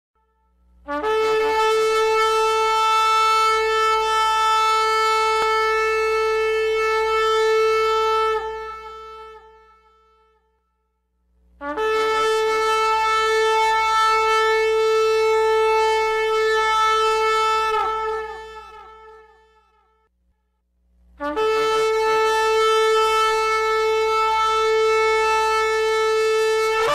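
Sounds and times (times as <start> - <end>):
shofar blasts: 0.9 - 10.3, 11.6 - 19.8, 21.2 - 26.9.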